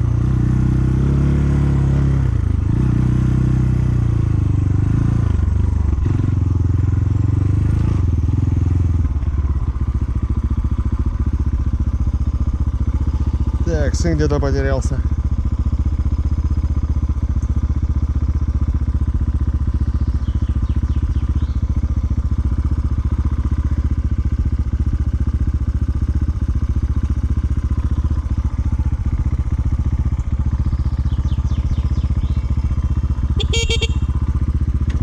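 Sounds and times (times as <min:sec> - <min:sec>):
dirt bike engine idling: 0:00.0 - 0:35.0.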